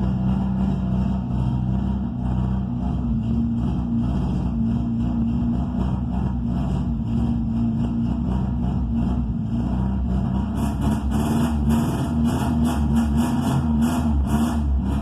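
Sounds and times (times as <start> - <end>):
car engine with loud exhaust rumble: 0.0 - 15.0.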